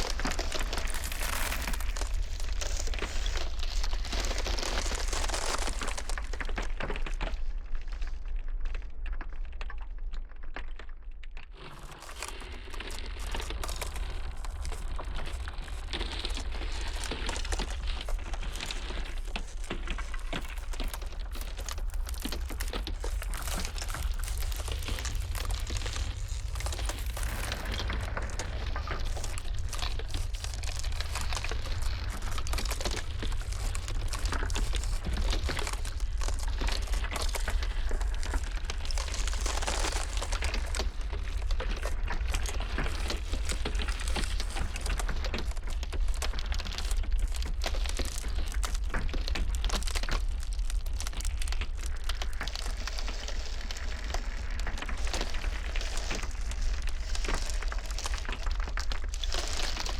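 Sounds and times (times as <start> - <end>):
low rumble of blizzard wind: 0.0 - 10.2, 11.5 - 59.9
ice cracking and crackling: 0.0 - 59.9.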